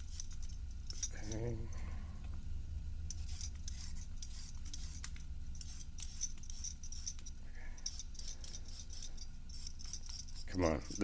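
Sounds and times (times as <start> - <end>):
vegetable peeler scraping: 0.0 - 1.5, 3.1 - 11.0
steady low hum: 0.0 - 11.0.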